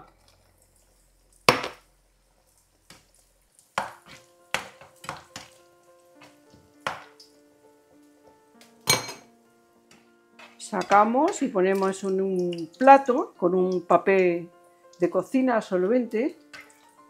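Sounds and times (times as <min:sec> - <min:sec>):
bread frying in oil: 0:00.0 - 0:09.0, 0:09.7 - 0:17.0
soft background music: 0:01.9 - 0:17.0.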